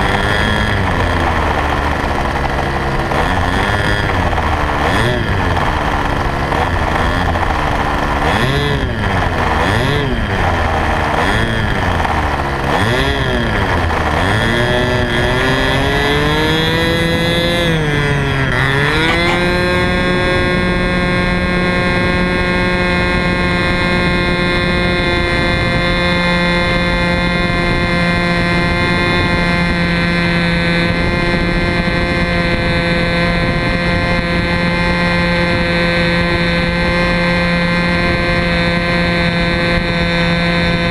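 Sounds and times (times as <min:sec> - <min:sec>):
model plane engine revving: 0:00.0 - 0:40.9.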